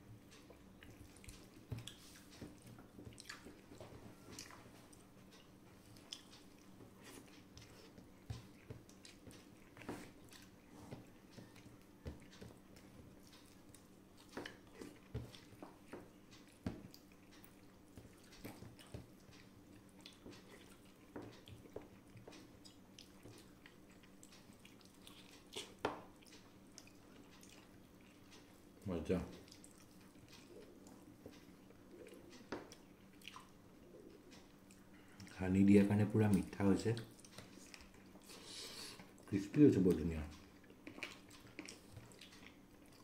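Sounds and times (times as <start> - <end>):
faint steady hum: 0.0 - 43.0
person chewing: 0.2 - 28.8, 29.4 - 35.4, 37.0 - 39.3, 40.4 - 43.0
small clicks and smacks: 0.2 - 35.4, 36.2 - 38.2, 39.0 - 43.0.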